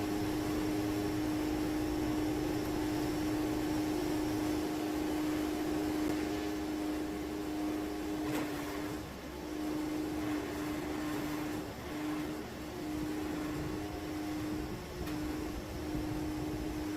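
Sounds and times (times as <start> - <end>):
sawmill engine humming: 0.0 - 16.9.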